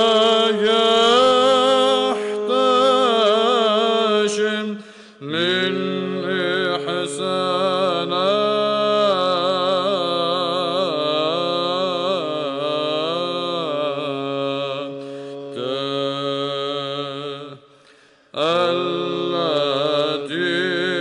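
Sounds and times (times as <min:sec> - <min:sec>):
man chanting a slow melody: 0:00.0 - 0:17.6, 0:18.4 - 0:21.0.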